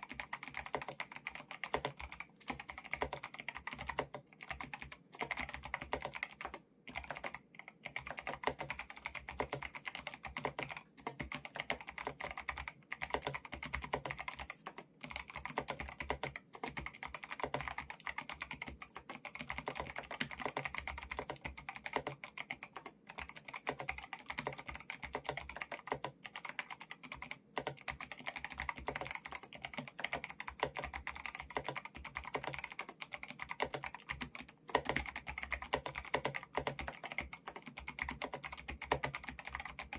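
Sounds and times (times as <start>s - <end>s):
mechanical keyboard typing clicks: 0.0s - 39.9s.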